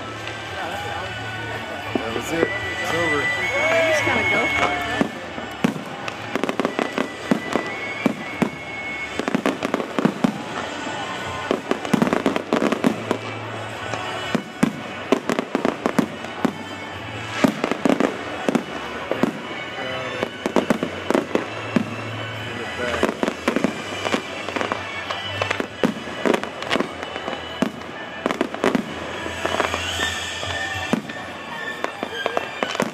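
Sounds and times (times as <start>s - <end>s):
fireworks bursting: 0.0s - 32.9s.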